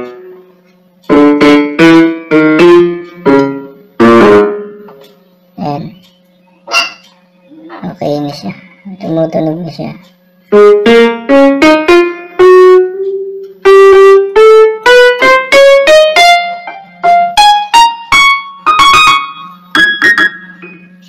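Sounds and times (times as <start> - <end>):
electronic keyboard piano notes: 0.0 - 21.0
faint steady hum: 0.0 - 21.0.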